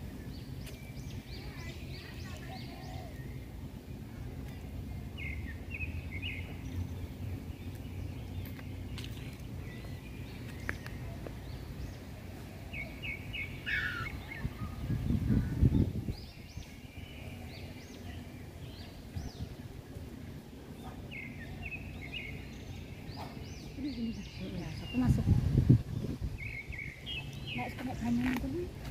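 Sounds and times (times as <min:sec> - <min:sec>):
birds singing: 0:00.0 - 0:28.9
low outdoor rumble: 0:00.0 - 0:28.9.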